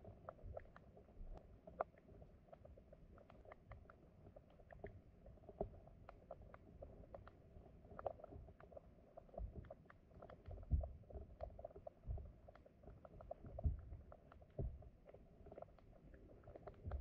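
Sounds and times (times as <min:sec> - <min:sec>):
soft low underwater thuds: 0:00.0 - 0:17.0.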